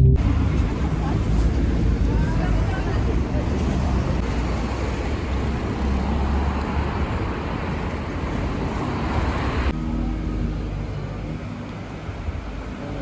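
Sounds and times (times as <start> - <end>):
quiet street noise: 0.0 - 13.0
street traffic rumble: 0.0 - 13.0.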